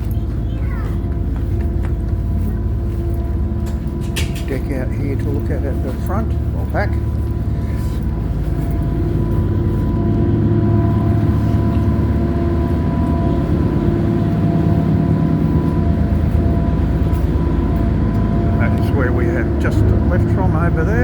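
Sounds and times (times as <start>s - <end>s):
constant engine whine: 0.0s - 21.0s
diesel engines rumbling: 0.0s - 21.0s.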